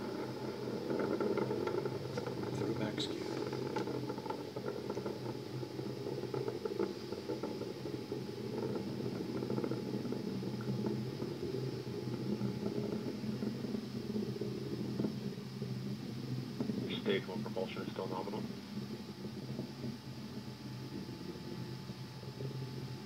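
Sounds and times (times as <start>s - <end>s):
rocket engine rumble: 0.0s - 23.0s.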